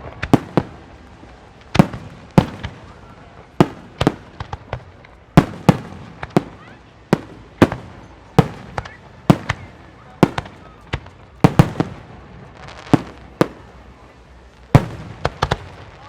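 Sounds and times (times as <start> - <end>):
fireworks shells booming: 0.0 - 16.0.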